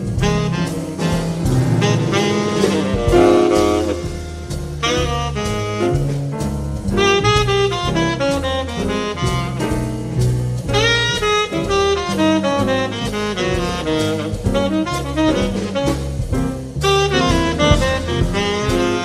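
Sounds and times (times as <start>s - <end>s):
drum kit: 0.0s - 19.0s
piano: 0.0s - 19.0s
upright double bass: 0.0s - 19.0s
saxophone lead: 0.1s - 6.3s, 7.0s - 9.9s, 10.7s - 19.0s.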